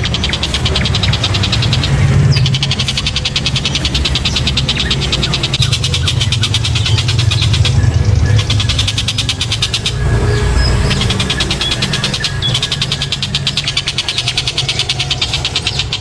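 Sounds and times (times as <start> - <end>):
bird rattling chatter: 0.0 - 16.0.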